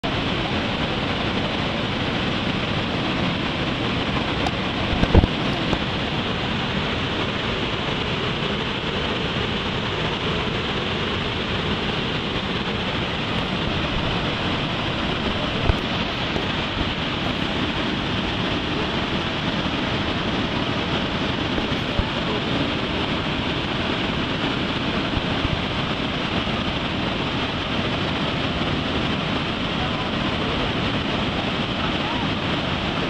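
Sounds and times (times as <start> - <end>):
rushing water: 0.0 - 33.0
wind: 0.0 - 33.0.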